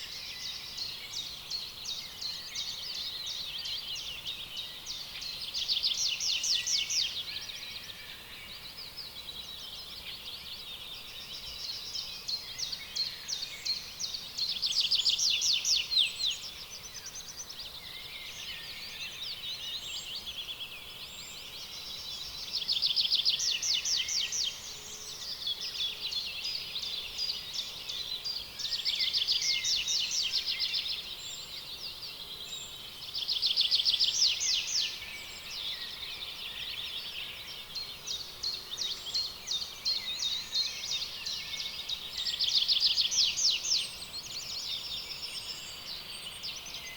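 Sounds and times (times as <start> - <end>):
songbirds chirping and twittering: 0.0 - 46.9.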